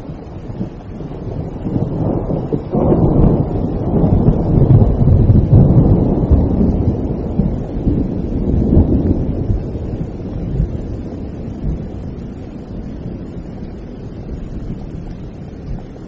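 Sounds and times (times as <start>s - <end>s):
rain: 0.0s - 16.0s
rolling thunder: 0.0s - 16.0s.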